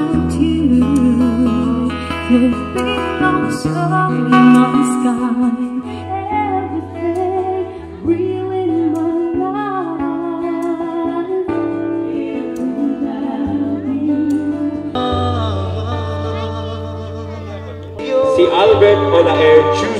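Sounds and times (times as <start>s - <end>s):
woman singing a slow ballad: 0.0s - 17.0s.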